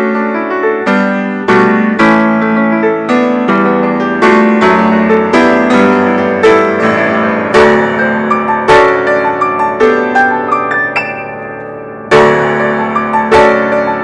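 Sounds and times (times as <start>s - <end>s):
piano playing full chords: 0.0s - 14.0s.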